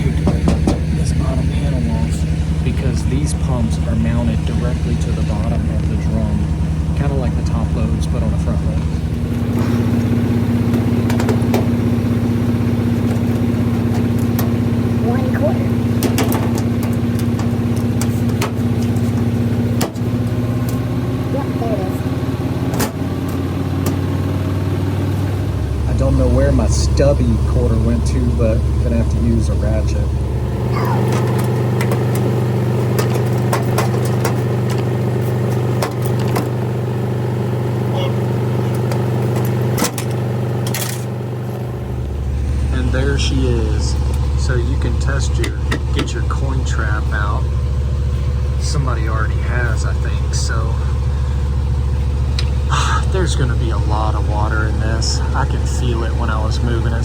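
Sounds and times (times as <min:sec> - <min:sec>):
loud mechanical drone: 0:00.0 - 0:57.0
low machine hum: 0:00.0 - 0:57.0.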